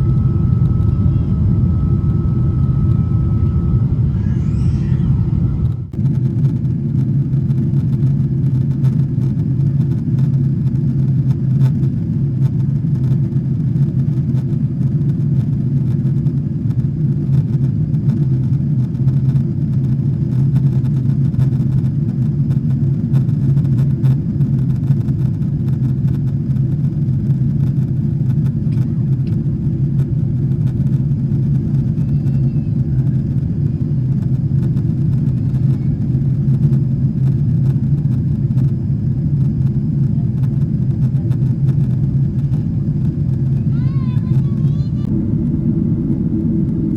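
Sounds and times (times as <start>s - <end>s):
airliner engines rumbling in cabin: 0.0s - 46.9s.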